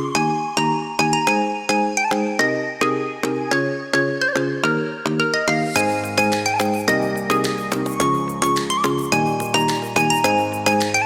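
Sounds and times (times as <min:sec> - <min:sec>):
bright rhythmic music of plucked chords: 0:00.0 - 0:11.0.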